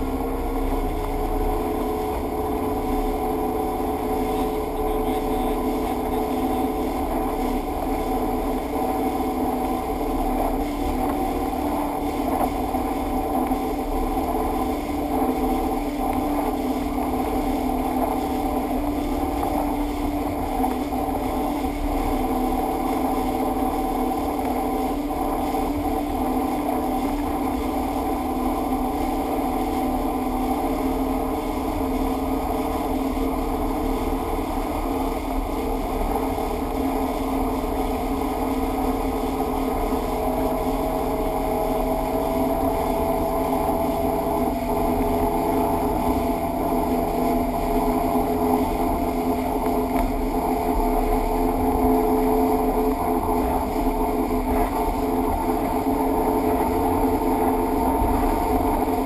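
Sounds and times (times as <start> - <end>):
motorboat engine hum: 0.0 - 59.0
water rushing along hull: 0.0 - 59.0.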